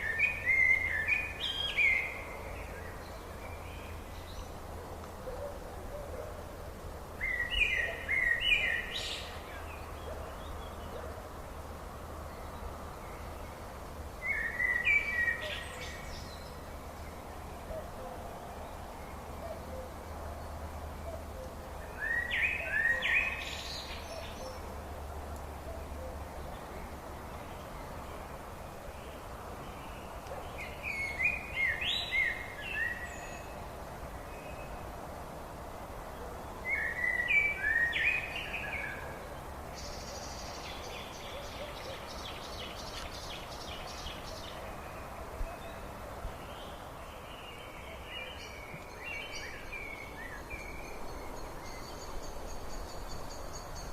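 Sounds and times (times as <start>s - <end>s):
background hiss: 0.0s - 53.9s
songbird singing: 0.0s - 53.9s.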